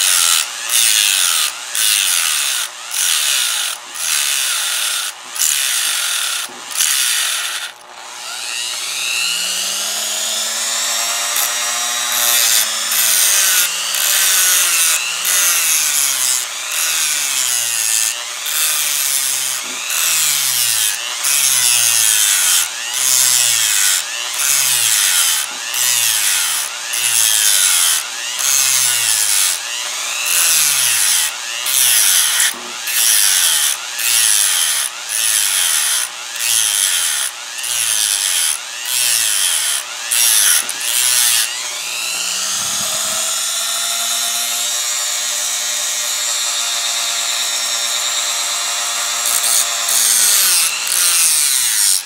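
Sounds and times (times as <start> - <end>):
rotary tool grinding cuts: 0.0 - 52.0.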